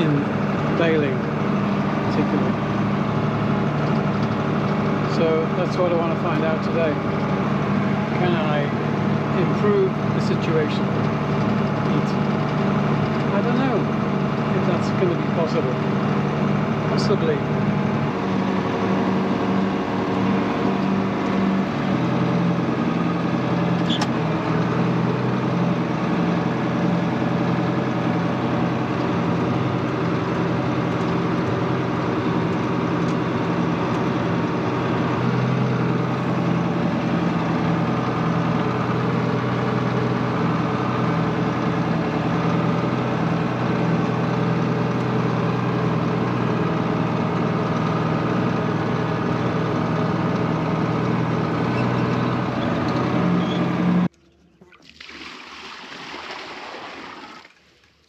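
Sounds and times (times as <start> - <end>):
tractor diesel engine running: 0.0 - 54.7.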